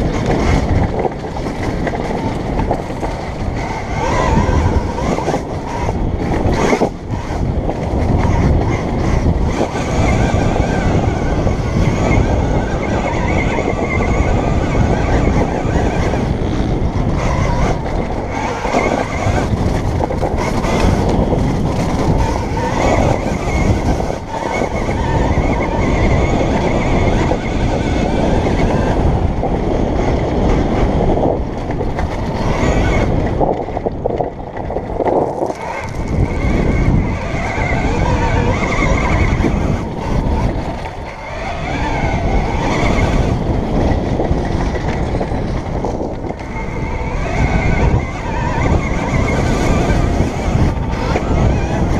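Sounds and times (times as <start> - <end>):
high whine of electric motor: 0.0 - 51.9
tyre and chassis rumble: 0.0 - 51.9
wind on microphone: 0.0 - 51.9.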